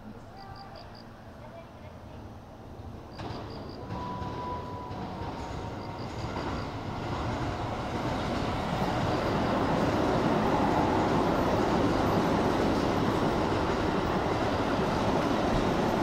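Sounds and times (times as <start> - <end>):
train wheels rumbling on rails: 2.8 - 16.0.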